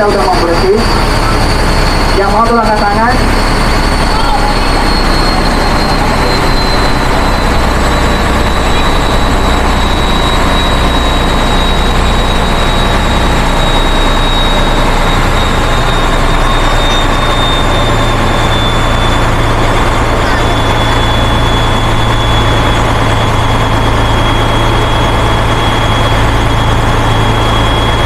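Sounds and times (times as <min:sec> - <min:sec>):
boat engine running: 0:00.0 - 0:28.0
thin high whine: 0:00.0 - 0:28.0.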